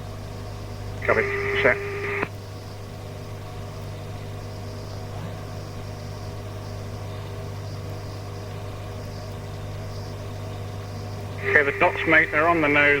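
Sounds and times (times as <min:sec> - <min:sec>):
radio receiver hum and hiss: 0:00.0 - 0:13.0.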